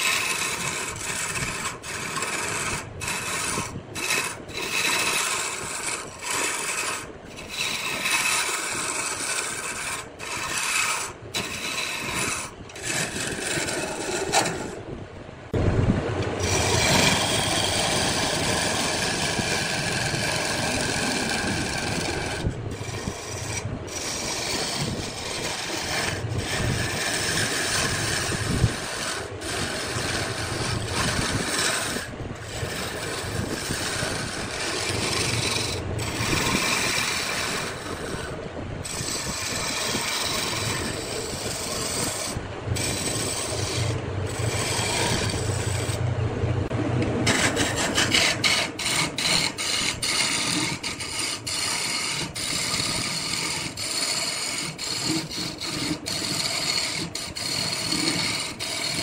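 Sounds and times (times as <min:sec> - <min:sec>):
wood lathe rasping hiss: 0:00.0 - 0:14.8, 0:16.2 - 0:46.0, 0:47.2 - 0:59.0
low motor hum: 0:00.0 - 0:59.0.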